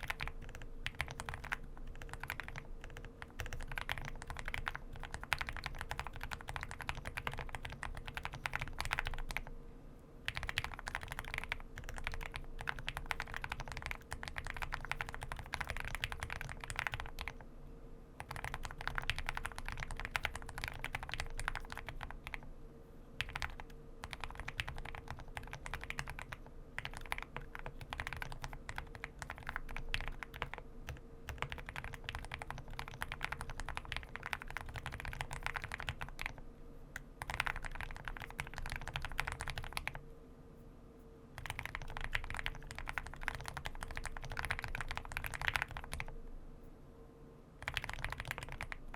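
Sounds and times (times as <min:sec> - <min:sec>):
mechanical keyboard typing: 0:00.0 - 0:09.5, 0:10.3 - 0:17.4, 0:18.2 - 0:22.4, 0:23.2 - 0:36.4, 0:37.2 - 0:40.0, 0:41.4 - 0:46.1, 0:47.6 - 0:48.9.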